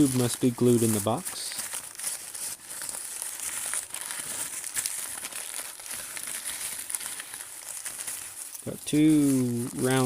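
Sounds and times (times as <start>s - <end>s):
paper wrapping crinkling: 0.0s - 10.0s.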